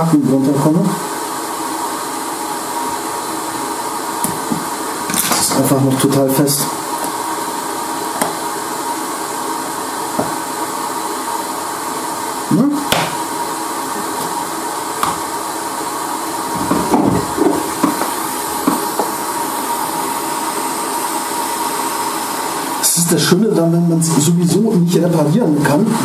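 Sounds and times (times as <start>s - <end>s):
hot-air blower hissing: 0.0s - 26.0s.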